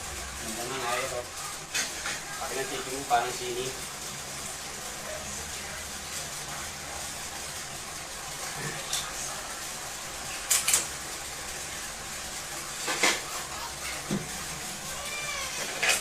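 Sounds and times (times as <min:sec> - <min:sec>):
steady room noise hiss: 0:00.0 - 0:16.0.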